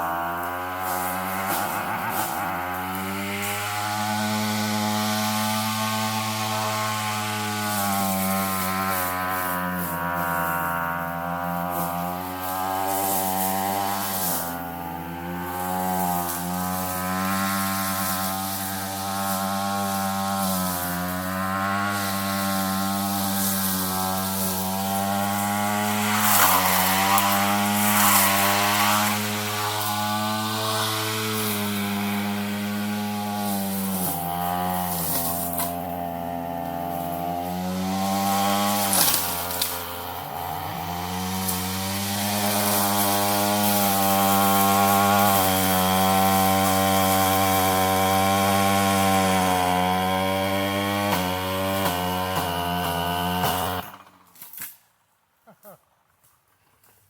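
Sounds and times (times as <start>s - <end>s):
weed eater cutting brush: 0.0s - 54.8s, 55.6s - 55.8s.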